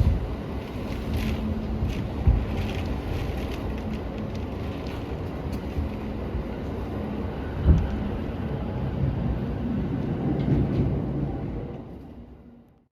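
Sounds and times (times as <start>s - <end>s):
train wheels rumbling: 0.0s - 12.6s.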